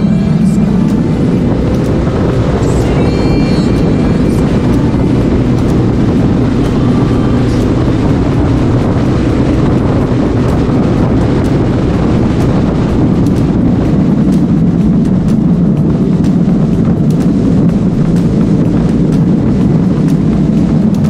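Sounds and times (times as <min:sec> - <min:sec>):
motorcycle engine cruising: 0:00.0 - 0:21.0
wind rushing over microphone: 0:00.0 - 0:21.0.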